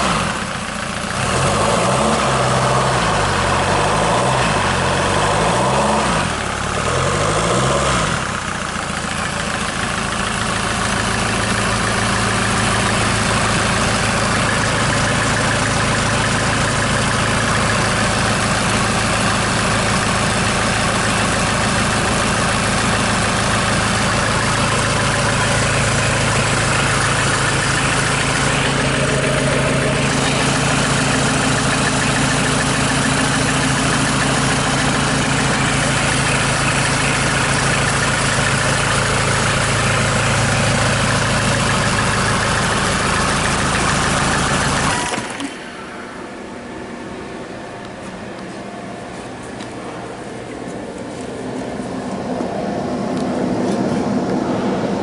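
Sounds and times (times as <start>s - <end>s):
diesel engine revving and idling: 0.0s - 55.0s.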